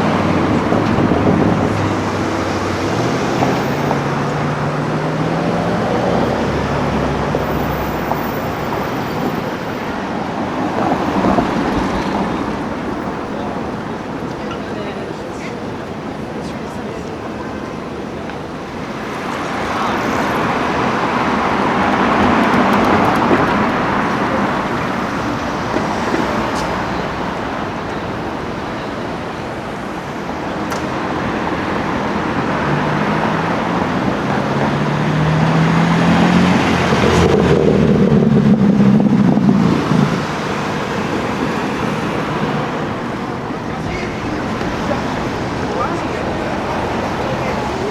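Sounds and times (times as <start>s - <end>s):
car accelerating: 0.0s - 16.4s, 17.1s - 47.9s
cars passing: 0.0s - 47.9s.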